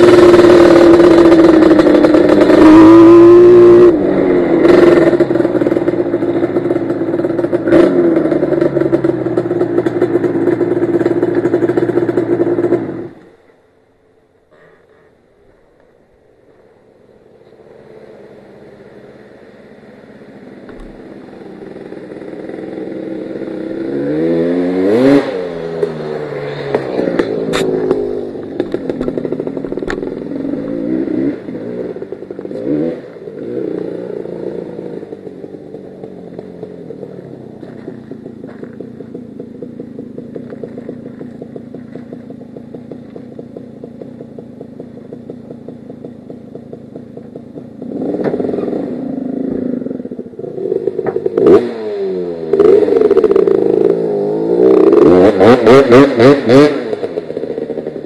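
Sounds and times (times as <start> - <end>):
atv engine revving and idling: 0.0 - 13.6, 16.4 - 58.0.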